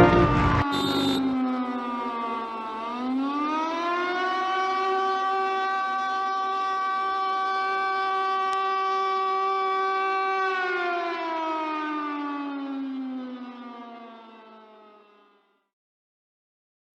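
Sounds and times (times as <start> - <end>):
siren winding down: 0.0 - 15.6.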